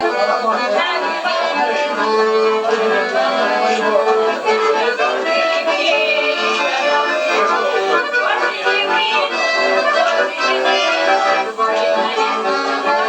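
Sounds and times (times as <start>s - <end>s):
button accordion playing chords: 0.0s - 13.0s.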